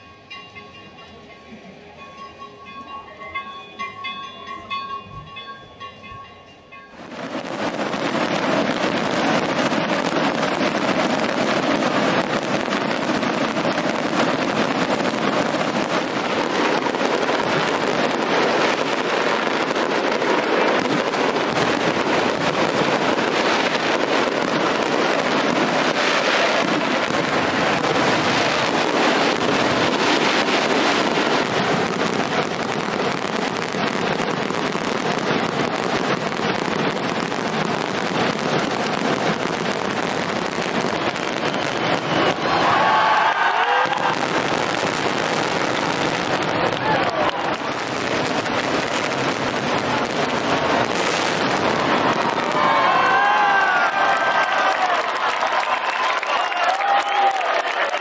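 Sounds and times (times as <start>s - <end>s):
fireworks bangs and crackle: 6.9s - 58.0s.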